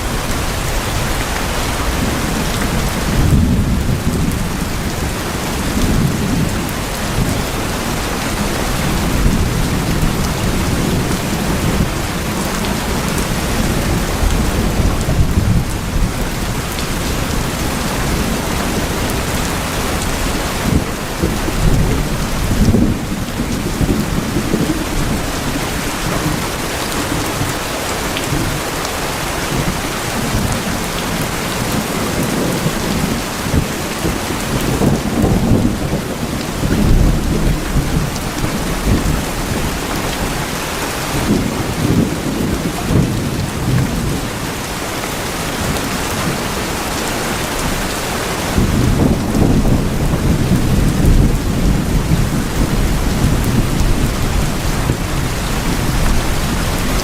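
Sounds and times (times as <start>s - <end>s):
rain on tin roofs: 0.0s - 57.0s
low rumbles of thunder: 1.9s - 27.6s, 29.5s - 44.6s, 45.5s - 57.0s.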